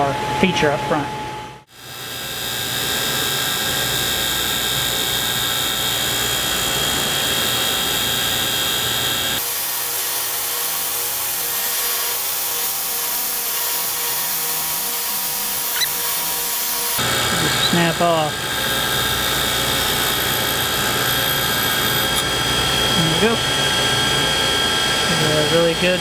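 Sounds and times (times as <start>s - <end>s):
grinder high whine: 1.2s - 26.0s.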